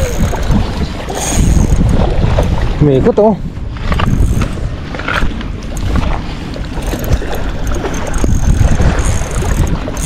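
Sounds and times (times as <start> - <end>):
sea water washing against rocks: 0.0 - 10.0
wind buffeting microphone: 0.0 - 10.0.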